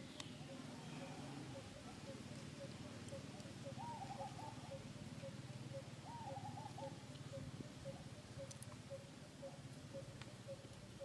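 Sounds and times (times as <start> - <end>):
bird warbling calls: 0.4 - 11.0.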